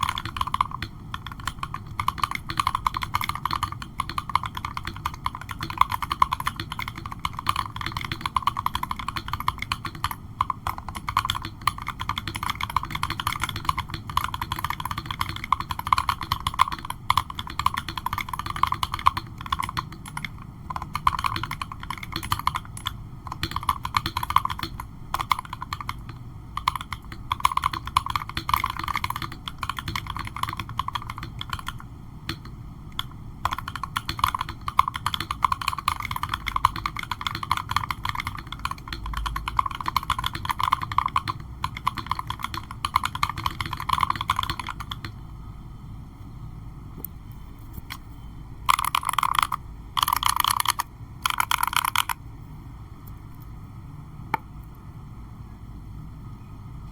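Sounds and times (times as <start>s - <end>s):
mechanical keyboard typing: 0.0s - 45.2s, 48.6s - 52.2s.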